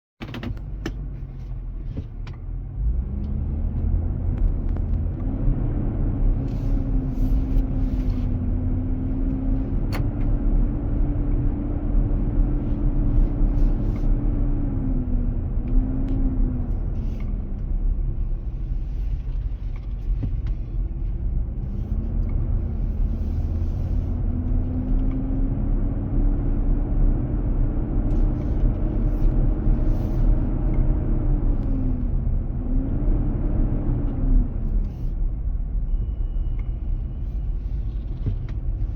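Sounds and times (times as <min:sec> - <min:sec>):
engine cooling fan hum: 0:00.2 - 0:38.9
low rumble of moving vehicle: 0:00.2 - 0:38.9.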